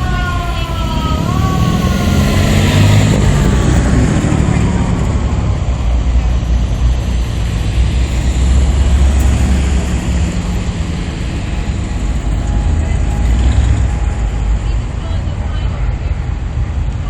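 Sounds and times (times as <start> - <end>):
car engines rumbling past: 0.0 - 17.0.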